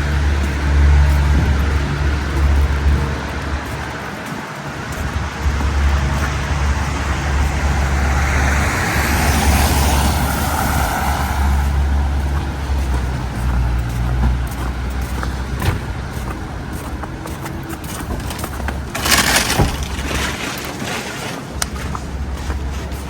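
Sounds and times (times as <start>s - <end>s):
low traffic rumble: 0.0s - 23.0s
vehicle passing: 0.0s - 23.0s.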